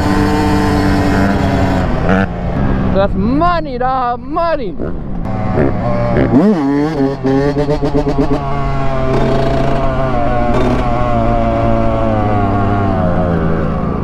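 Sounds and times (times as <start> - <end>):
two-stroke dirt bike engine: 0.0 - 3.0, 5.2 - 14.0.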